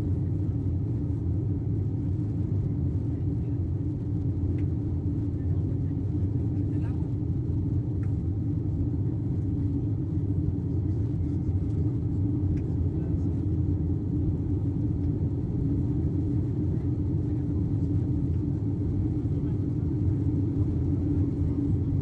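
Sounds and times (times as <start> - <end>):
aircraft cabin engine rumble: 0.0 - 22.0.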